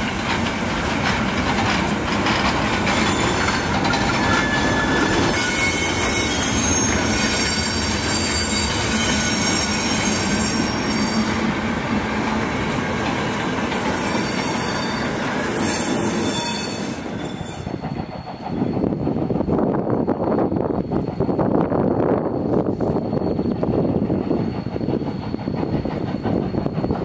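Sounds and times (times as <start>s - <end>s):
train rumble: 0.0s - 27.0s
train wheels squealing on rails: 0.0s - 27.0s.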